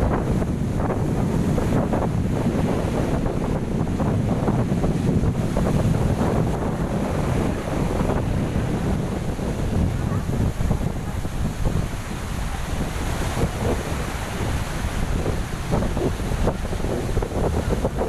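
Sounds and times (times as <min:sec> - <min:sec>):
strong wind on microphone: 0:00.0 - 0:18.0
waves breaking on shore: 0:00.0 - 0:18.0.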